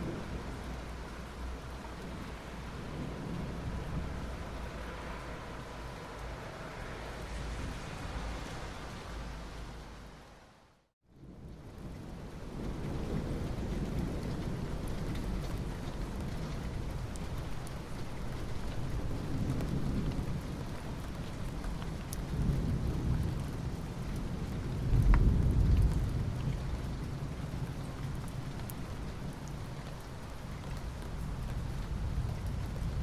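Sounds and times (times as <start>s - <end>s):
rain falling on asphalt: 0.0s - 33.0s.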